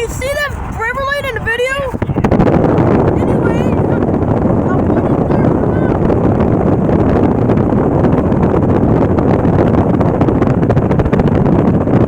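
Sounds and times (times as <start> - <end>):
car road and wind noise: 0.0 - 12.0
wind buffeting microphone: 0.0 - 12.0.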